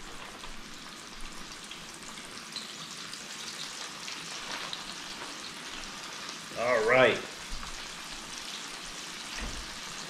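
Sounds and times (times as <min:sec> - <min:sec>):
fish frying in a skillet: 0:00.0 - 0:10.0.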